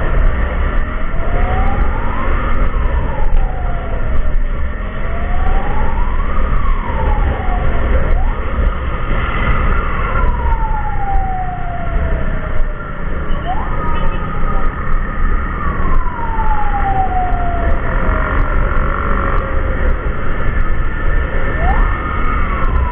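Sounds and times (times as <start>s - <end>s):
emergency siren wailing: 0.0s - 22.9s
heavy low rumble: 0.0s - 22.9s.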